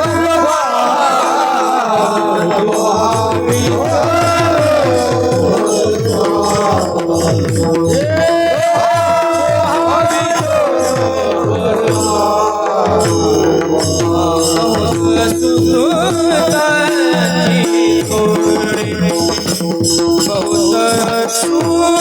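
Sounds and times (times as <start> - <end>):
person singing: 0.0 - 22.0
steady held tones: 0.0 - 22.0
hand drum beating: 1.6 - 22.0.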